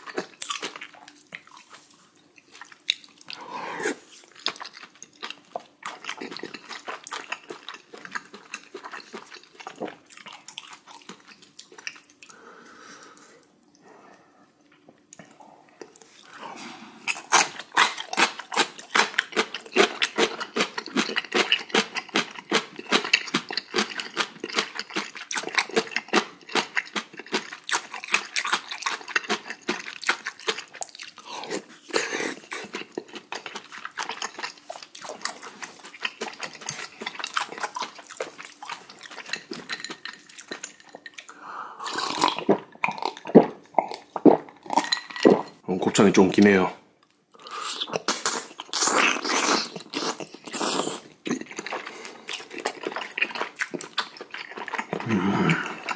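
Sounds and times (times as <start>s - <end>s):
wet chewing and lip-smacking: 0.0s - 3.4s, 4.2s - 12.4s, 17.1s - 45.4s, 47.4s - 55.9s.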